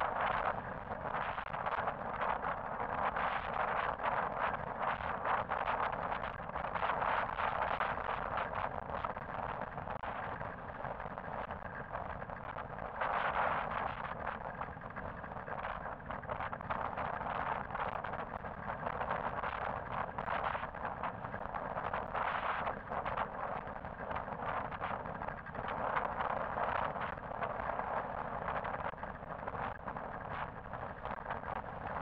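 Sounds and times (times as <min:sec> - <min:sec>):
rushing wind: 0:00.0 - 0:32.0.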